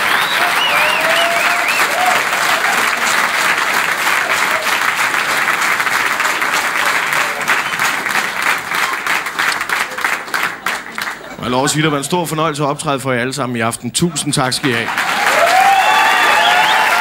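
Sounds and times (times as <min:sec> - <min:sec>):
audience applause: 0:00.0 - 0:11.9, 0:14.6 - 0:17.0.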